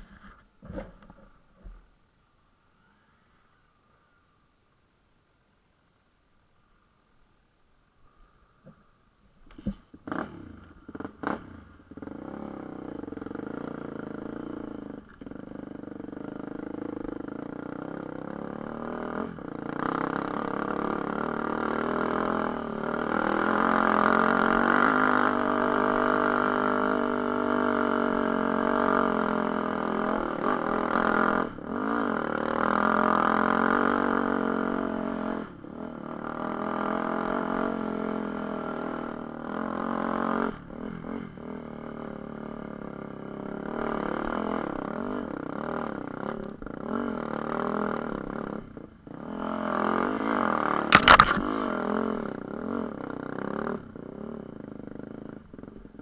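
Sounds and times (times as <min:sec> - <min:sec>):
dirt bike engine revving: 0:10.0 - 0:55.3.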